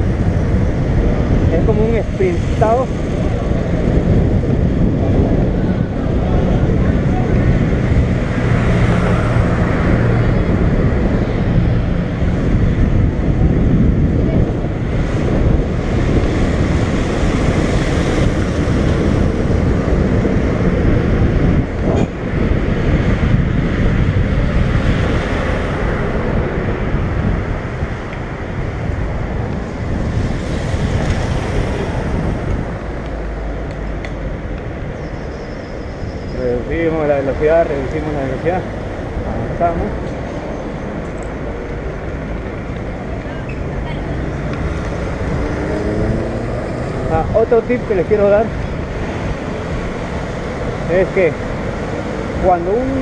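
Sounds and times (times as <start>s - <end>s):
road traffic passing: 0.0s - 53.0s
wind rumbling on microphone: 0.0s - 53.0s
car engine humming: 2.6s - 53.0s.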